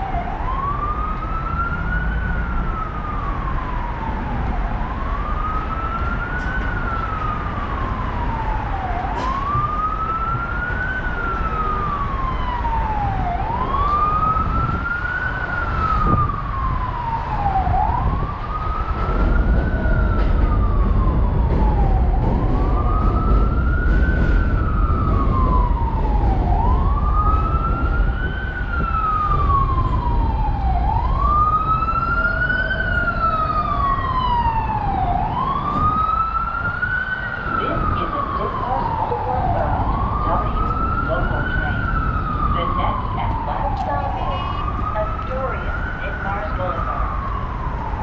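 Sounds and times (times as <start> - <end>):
emergency siren wailing: 0.0 - 48.0
faint higher siren: 0.0 - 48.0.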